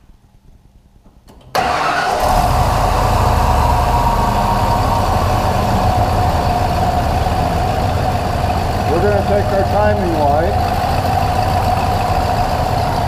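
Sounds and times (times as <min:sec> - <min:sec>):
engine starting and idling: 0:01.4 - 0:13.0.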